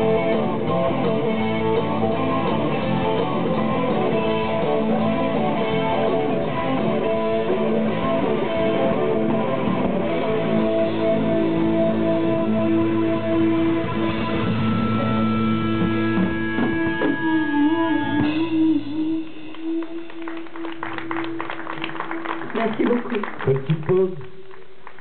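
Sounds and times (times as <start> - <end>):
bass guitar: 0.0 - 25.0
drums: 0.0 - 25.0
electric guitar lead lines: 0.0 - 25.0.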